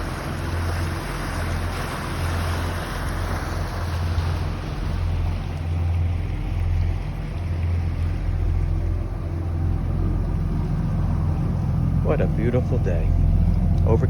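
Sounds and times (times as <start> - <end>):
boat diesel engine humming: 0.0 - 14.0
water hissing along a hull: 0.0 - 14.0.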